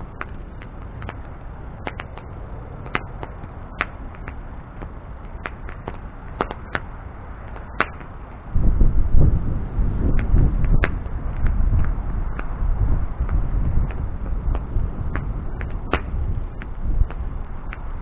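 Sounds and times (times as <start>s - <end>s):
bonfire crackling and popping: 0.0s - 18.0s
low uneven rumble: 0.0s - 18.0s.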